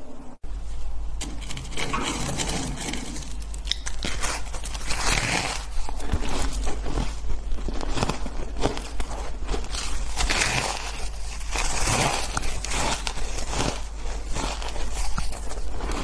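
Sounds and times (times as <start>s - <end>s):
person crunching and chewing ice: 1.2s - 16.0s.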